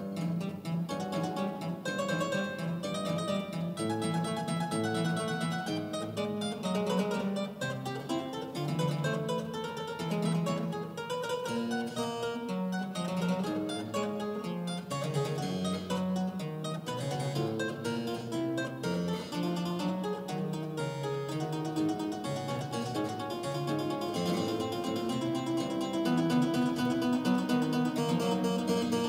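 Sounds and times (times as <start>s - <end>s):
harpsichord playing: 0.9s - 29.0s.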